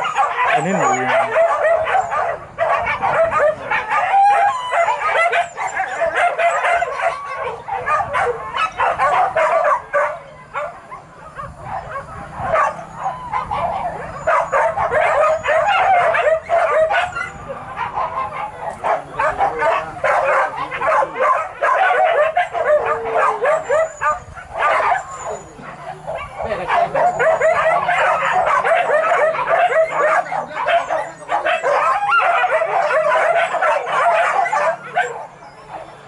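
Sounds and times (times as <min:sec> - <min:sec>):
dogs yelping and barking: 0:00.0 - 0:36.0.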